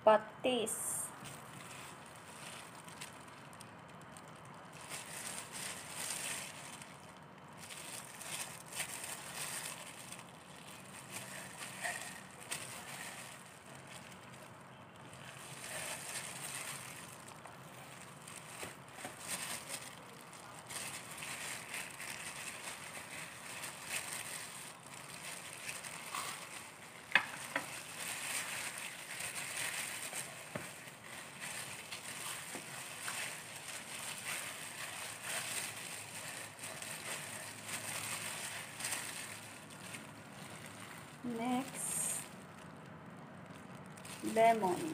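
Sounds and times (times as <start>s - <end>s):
gloved hands crinkling and squishing: 0.6s - 44.9s.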